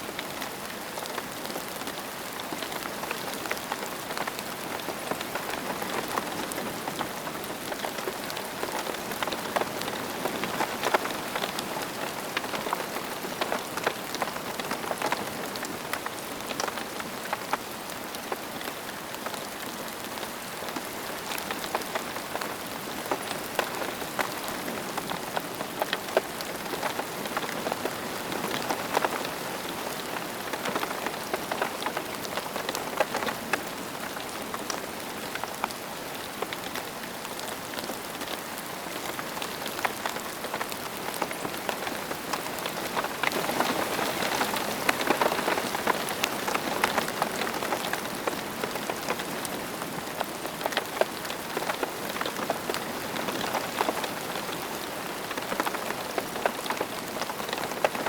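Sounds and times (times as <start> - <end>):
rain pattering on a surface: 0.0 - 58.0.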